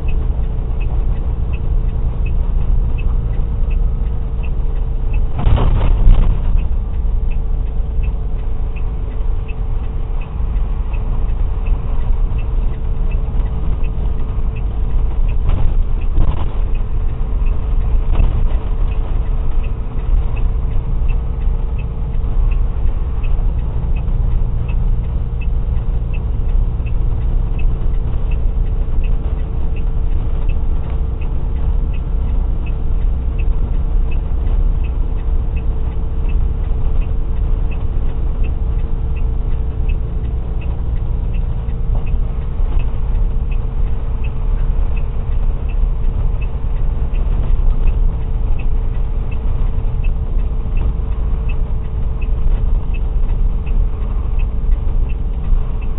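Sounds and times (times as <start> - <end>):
light high ticking: 0.0 - 55.9
truck engine and road rumble: 0.0 - 55.9.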